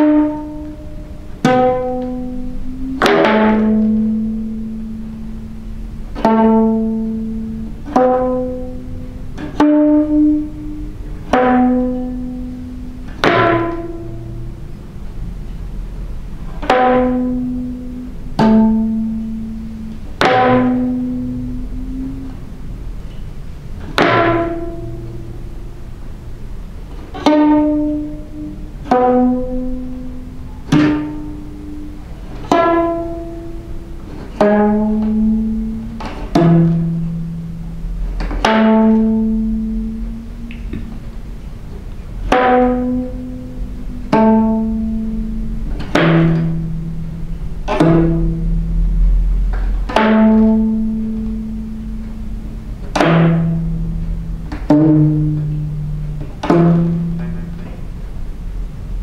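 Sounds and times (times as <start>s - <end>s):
plucked zither notes: 0.0s - 59.0s.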